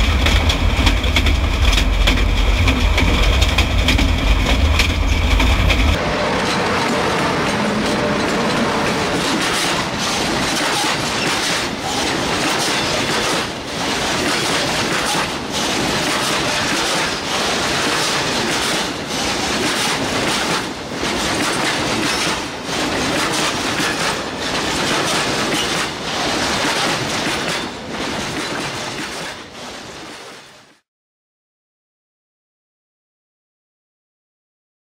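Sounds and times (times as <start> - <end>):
train wheels clattering over rail joint: 0.0 - 30.5.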